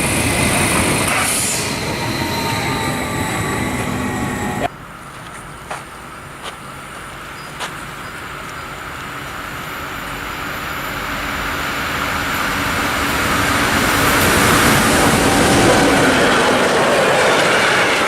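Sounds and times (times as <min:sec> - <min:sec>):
train rumble and rail noise: 0:00.0 - 0:18.0.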